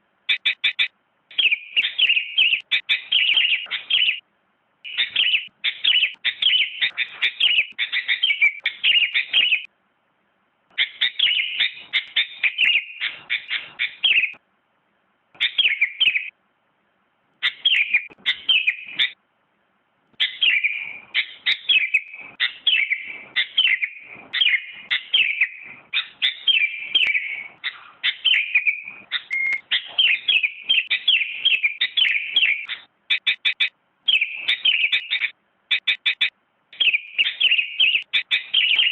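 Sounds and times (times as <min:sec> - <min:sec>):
bird chirping song: 0:00.2 - 0:09.7, 0:10.7 - 0:14.4, 0:15.3 - 0:16.4, 0:17.4 - 0:19.2, 0:20.1 - 0:38.9.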